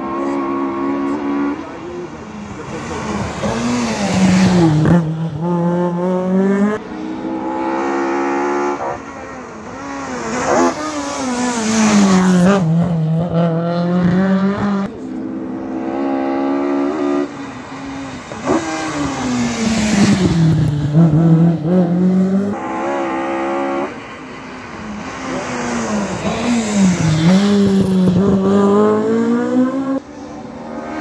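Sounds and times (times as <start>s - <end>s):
engines at high revs: 0.0s - 31.0s
rally cars racing past: 0.0s - 31.0s.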